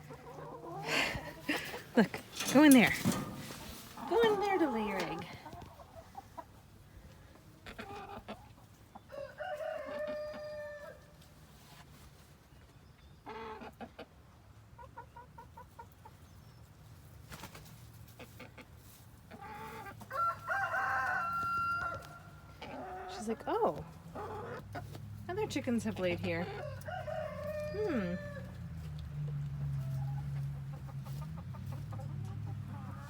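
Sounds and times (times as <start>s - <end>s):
chickens clucking and calling: 0.0s - 11.5s, 13.1s - 33.0s.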